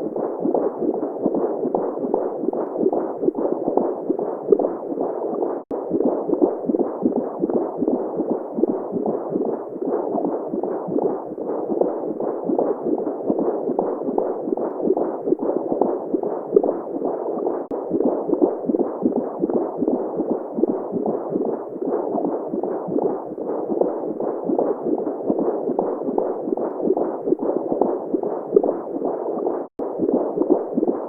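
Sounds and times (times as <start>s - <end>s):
muffled pulsing womb sound: 0.0s - 31.0s.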